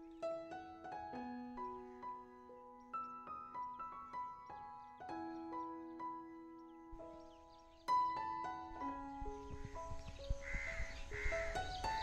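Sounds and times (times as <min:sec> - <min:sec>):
soft plucked background music: 0:00.0 - 0:12.0.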